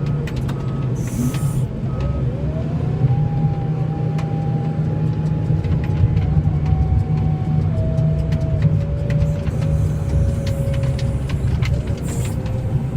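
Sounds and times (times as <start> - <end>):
vehicle engine whining: 0.0 - 12.9.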